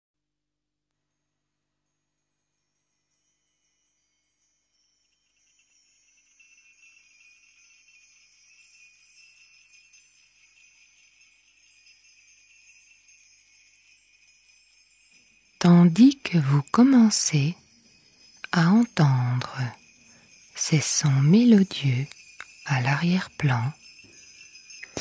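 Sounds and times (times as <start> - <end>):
high tinkling chimes: 1.0 - 25.0.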